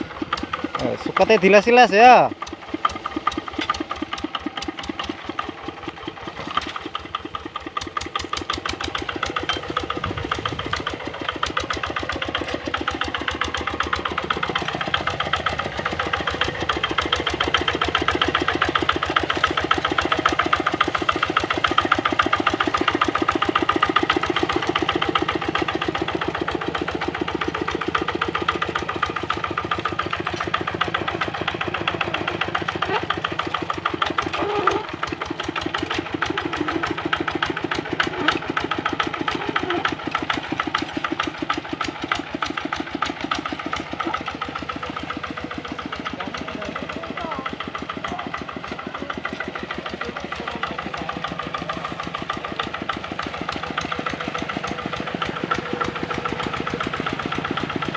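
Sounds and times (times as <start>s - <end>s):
diesel engine chugging: 0.0s - 57.9s.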